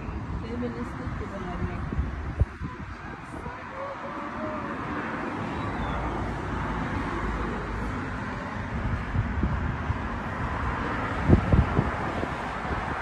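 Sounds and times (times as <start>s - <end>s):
distant street traffic hum: 0.0s - 13.0s
low wind buffets: 0.0s - 13.0s
wind blowing on microphone: 0.0s - 13.0s.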